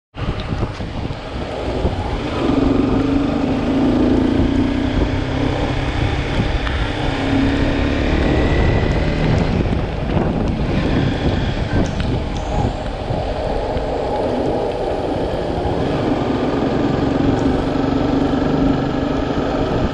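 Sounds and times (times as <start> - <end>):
wind buffeting microphone: 0.1 - 19.9
motorcycle engine running: 0.2 - 19.9.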